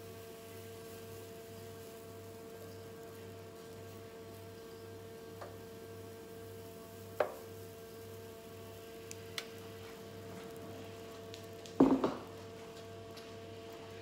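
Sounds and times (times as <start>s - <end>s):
faint kitchen hum: 0.0s - 14.0s.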